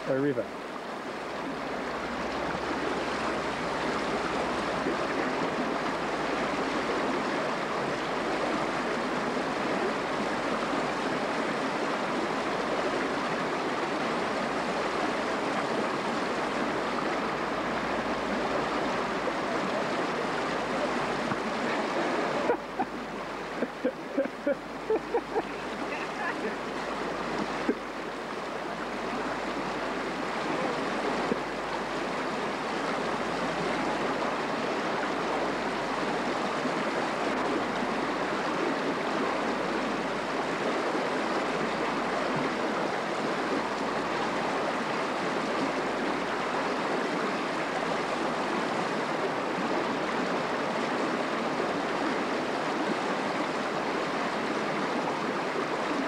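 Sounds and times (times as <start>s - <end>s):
river running over rocks: 0.0s - 56.0s.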